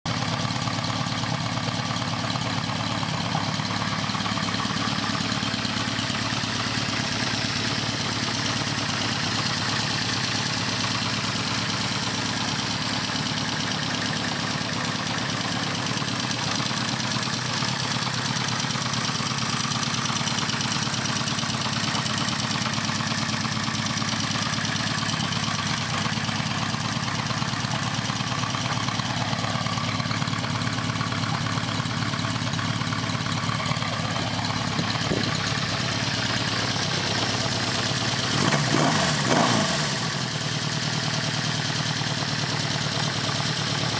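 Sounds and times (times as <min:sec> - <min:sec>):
motorcycle engine idling: 0:00.1 - 0:43.9.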